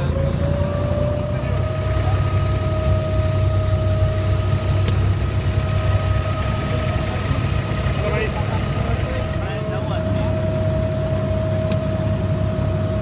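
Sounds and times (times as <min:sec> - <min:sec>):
boat engine droning: 0:00.0 - 0:13.0
thin steady whine: 0:00.0 - 0:13.0.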